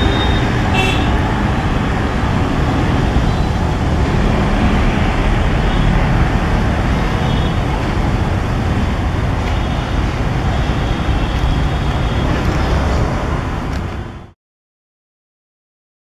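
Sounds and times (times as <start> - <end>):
diesel train rumbling: 0.0 - 14.3.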